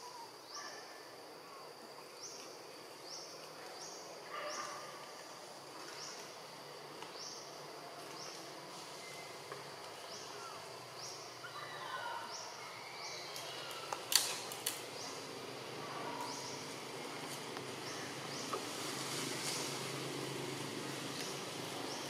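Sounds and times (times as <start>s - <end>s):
high insect call: 0.0s - 22.0s.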